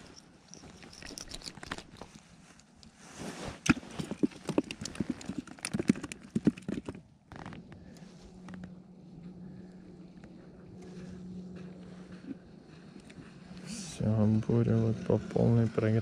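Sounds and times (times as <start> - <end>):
winter clothing rustling: 0.0 - 5.6, 7.1 - 16.0.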